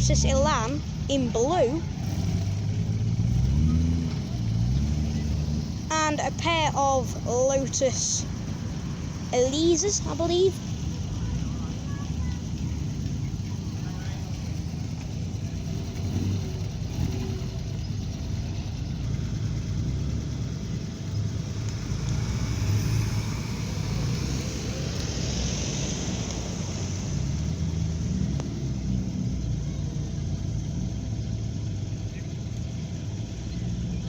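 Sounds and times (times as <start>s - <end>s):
car engines running slowly: 0.0s - 34.0s
car passing close: 0.0s - 34.0s.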